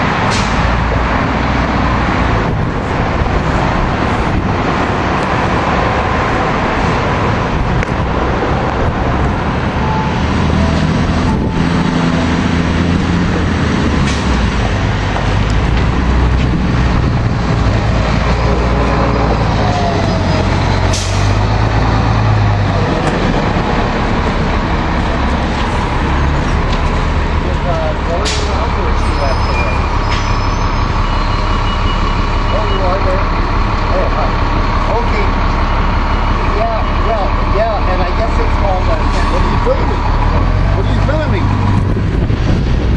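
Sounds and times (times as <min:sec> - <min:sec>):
diesel bus engines: 0:00.0 - 0:42.9.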